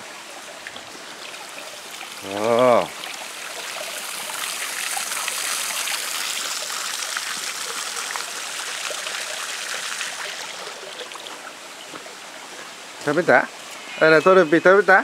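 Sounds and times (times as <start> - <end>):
water rushing over concrete: 0.0 - 15.0.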